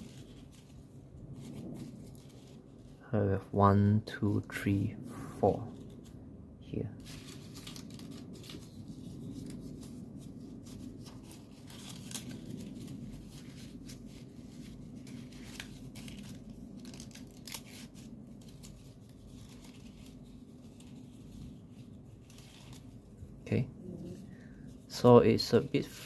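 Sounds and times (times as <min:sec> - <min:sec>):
paper rustling and crackling: 0:00.0 - 0:03.0, 0:05.4 - 0:26.0
steady low hum: 0:00.0 - 0:26.0.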